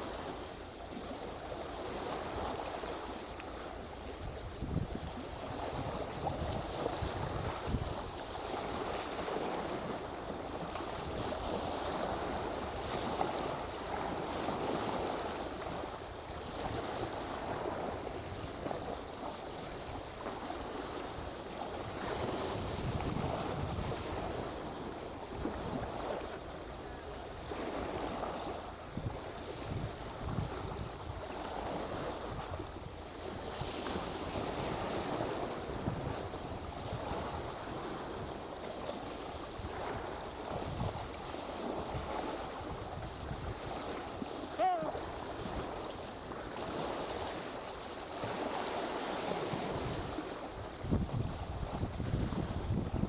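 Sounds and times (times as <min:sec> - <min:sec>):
surf washing: 0:00.0 - 0:53.0
wind buffeting microphone: 0:01.1 - 0:53.0.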